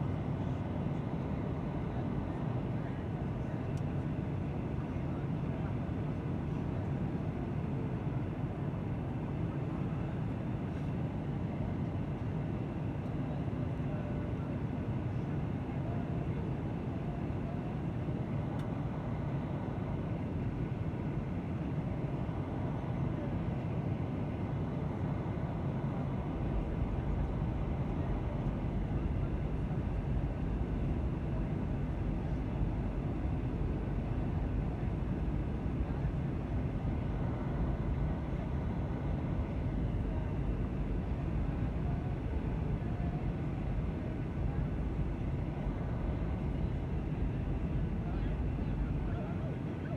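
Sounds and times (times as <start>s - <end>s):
airliner cabin engine drone: 0.0s - 49.9s.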